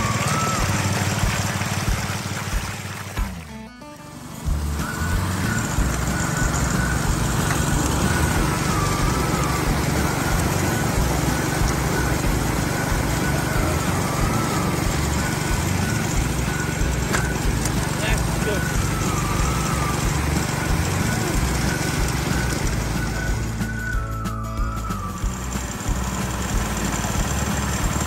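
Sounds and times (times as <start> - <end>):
water spraying: 0.0 - 3.6, 4.2 - 28.0
small engine running: 0.0 - 28.0
water rushing through grate: 0.0 - 28.0.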